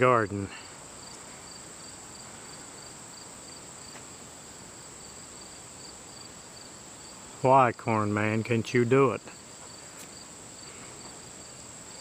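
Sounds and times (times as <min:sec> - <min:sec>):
crickets chirping: 0:00.0 - 0:12.0
insects droning: 0:00.0 - 0:12.0.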